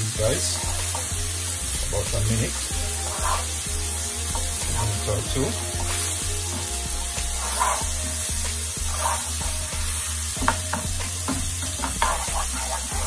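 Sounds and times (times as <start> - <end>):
onion sizzling in a frying pan: 0.0 - 13.0
wooden spatula scraping a pan: 0.2 - 13.0.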